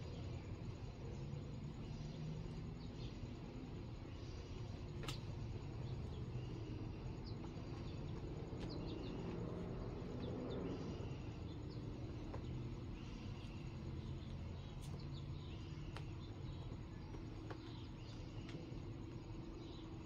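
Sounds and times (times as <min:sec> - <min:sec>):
low steady rumble: 0:00.0 - 0:20.0
small birds chirping: 0:00.0 - 0:20.0.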